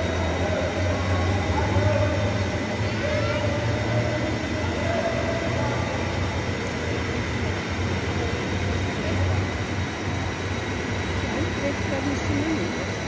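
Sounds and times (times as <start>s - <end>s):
industrial fan running: 0.0s - 13.0s.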